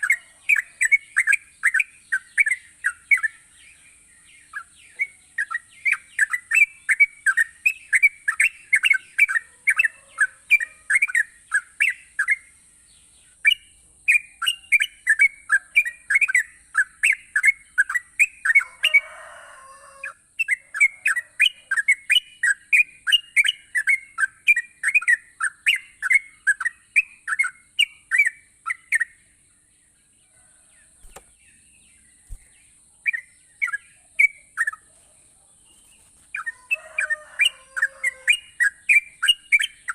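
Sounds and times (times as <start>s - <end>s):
bird chattering song: 0.0s - 19.0s, 20.0s - 30.2s, 30.8s - 39.9s.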